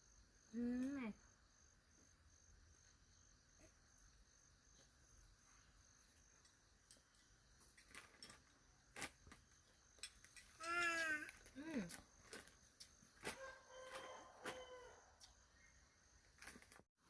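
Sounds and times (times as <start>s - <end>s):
insect trill: 0.0s - 16.8s.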